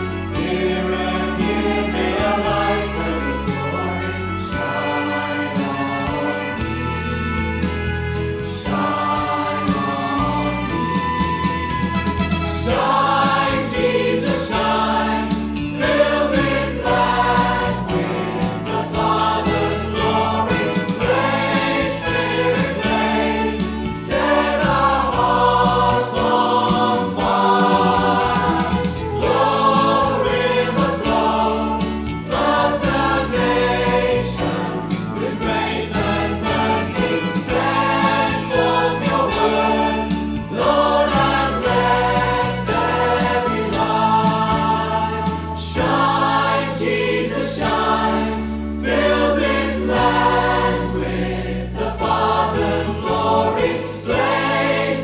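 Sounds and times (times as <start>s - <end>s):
group singing worship song: 0.0s - 55.0s
instrumental backing: 0.0s - 55.0s.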